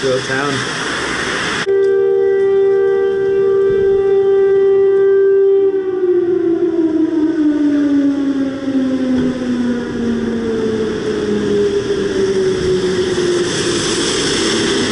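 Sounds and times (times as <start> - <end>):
air raid siren: 0.0 - 14.9.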